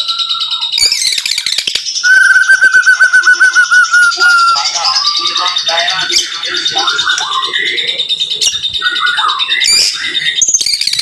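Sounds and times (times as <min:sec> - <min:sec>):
songbird whistling and trilling: 0:00.0 - 0:11.0.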